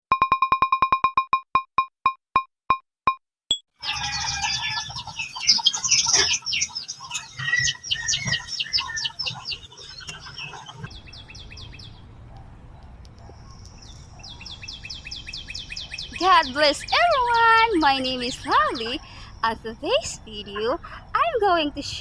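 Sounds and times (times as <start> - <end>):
small birds chirping: 3.8 - 22.0.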